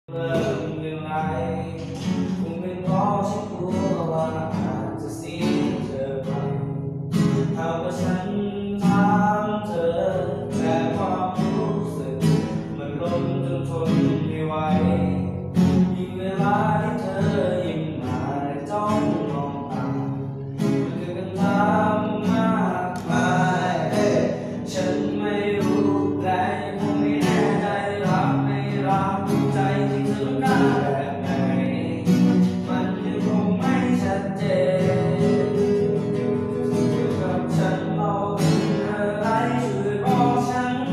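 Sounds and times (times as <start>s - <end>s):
acoustic guitar: 0.0s - 40.9s
man singing: 0.0s - 40.9s.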